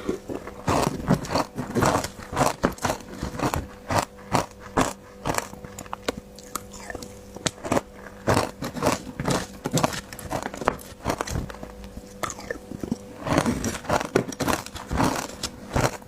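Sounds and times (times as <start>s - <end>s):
faint steady hum: 0.0s - 16.0s
ice being crunched and chewed: 0.0s - 16.0s.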